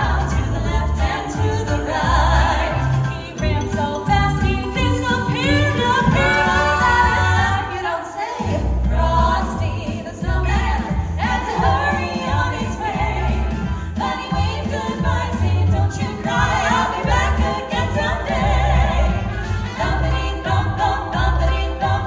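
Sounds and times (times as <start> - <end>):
vocal group singing in harmony: 0.0 - 22.0.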